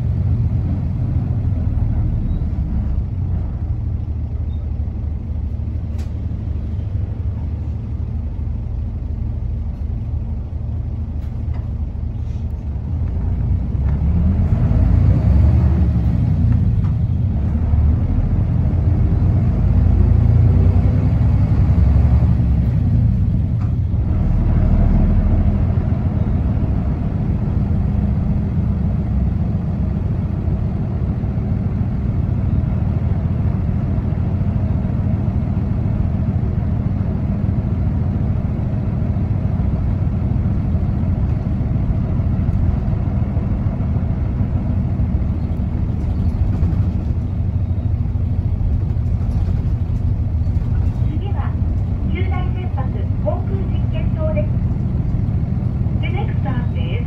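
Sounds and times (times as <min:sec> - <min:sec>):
bus diesel engine and road drone: 0:00.0 - 0:57.0.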